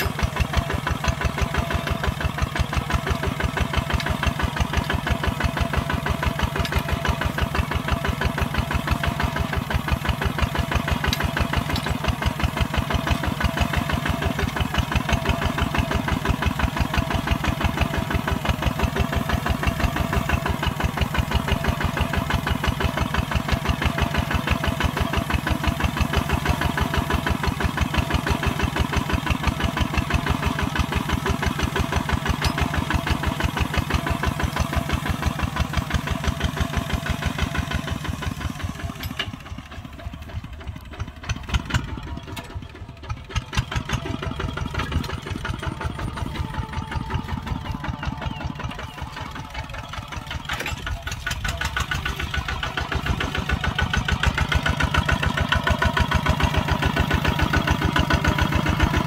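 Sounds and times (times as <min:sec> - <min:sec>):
diesel engine thumping: 0:00.0 - 0:59.0.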